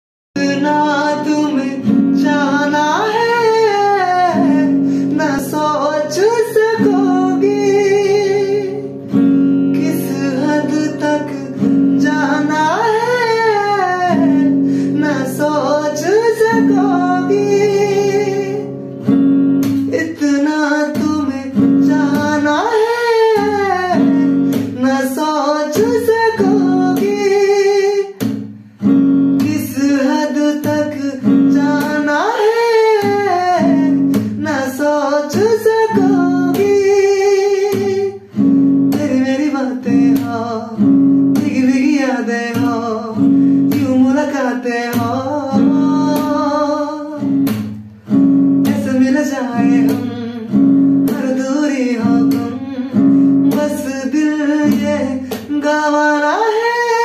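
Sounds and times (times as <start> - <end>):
man singing: 0.4 - 57.0
strummed acoustic guitar: 0.4 - 57.0.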